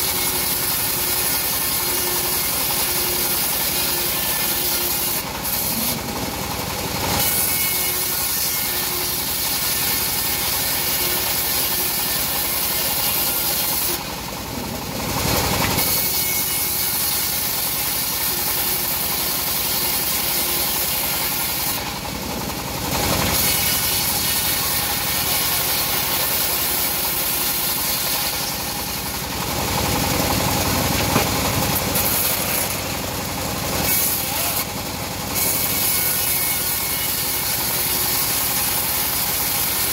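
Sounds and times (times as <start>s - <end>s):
engine running: 0.0s - 35.8s.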